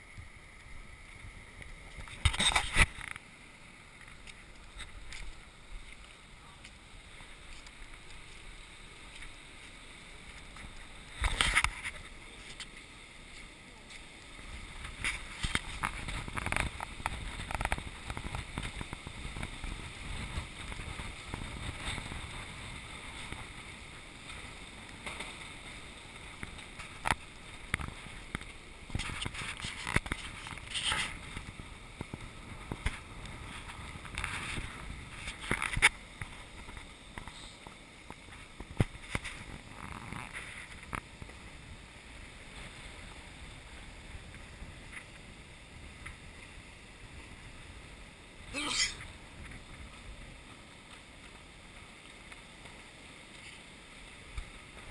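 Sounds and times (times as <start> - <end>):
wind: 0.0 - 54.9.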